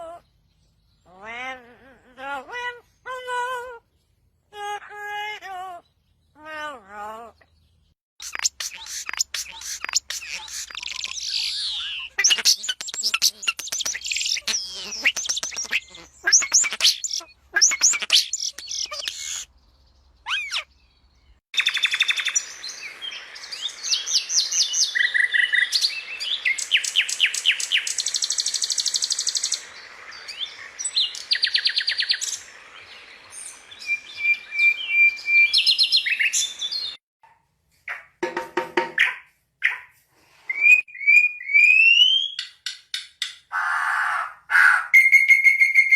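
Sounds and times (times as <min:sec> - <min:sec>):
songbirds singing: 0:00.0 - 0:37.0.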